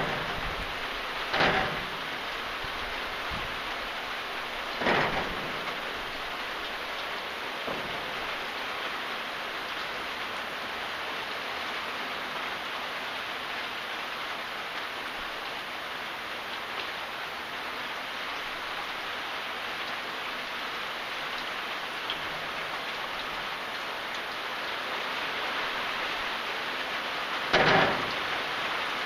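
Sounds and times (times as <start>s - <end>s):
rain hissing: 0.0s - 29.0s
rush of water: 0.0s - 29.0s.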